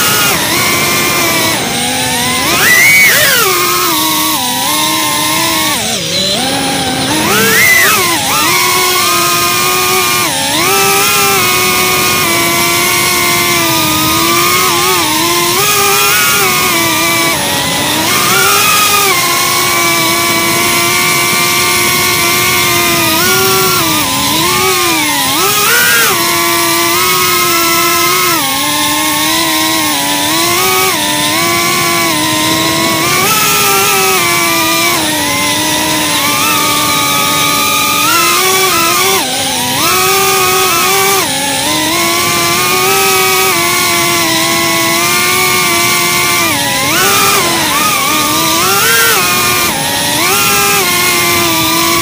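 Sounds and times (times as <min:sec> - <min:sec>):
drone motors whining: 0:00.0 - 0:52.0.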